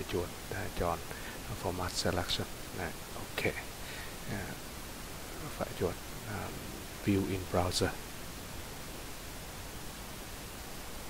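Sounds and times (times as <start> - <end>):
microphone background hiss: 0.0 - 11.0.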